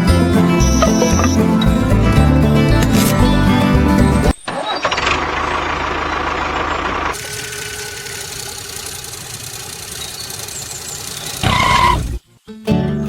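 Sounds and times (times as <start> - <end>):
engine running: 0.0 - 12.2.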